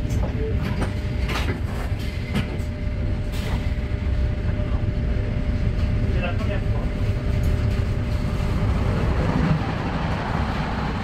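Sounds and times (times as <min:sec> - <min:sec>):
low rumble inside train: 0:00.0 - 0:11.0.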